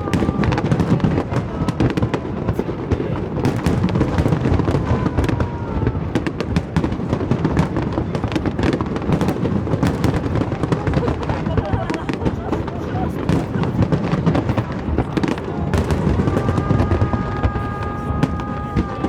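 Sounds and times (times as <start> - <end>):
firework booms and cracks: 0.0 - 19.0.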